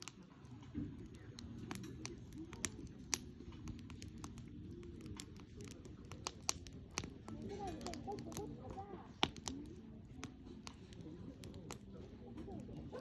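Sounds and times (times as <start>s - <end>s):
campfire wood crackling: 0.0s - 13.0s.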